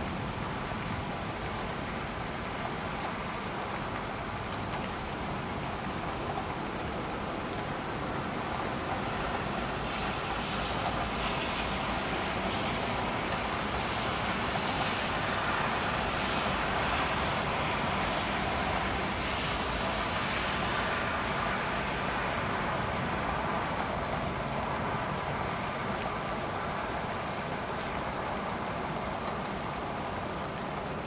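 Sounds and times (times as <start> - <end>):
heavy rain: 0.0 - 31.0
wind: 0.0 - 31.0.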